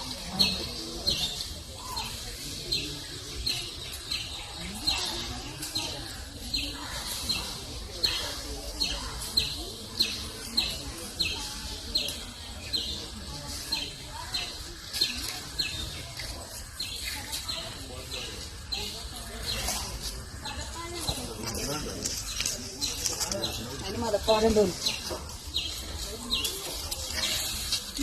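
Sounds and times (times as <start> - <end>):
faint voices murmuring: 0.0 - 28.0.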